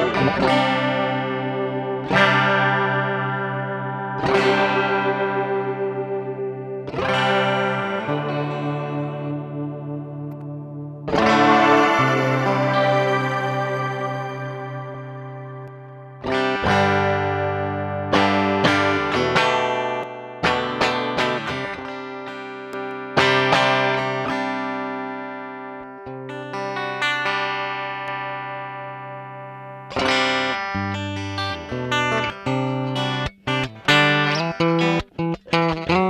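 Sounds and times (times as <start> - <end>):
choked guitar strums: 0.0 - 36.0
guitar chords strummed: 0.0 - 36.0.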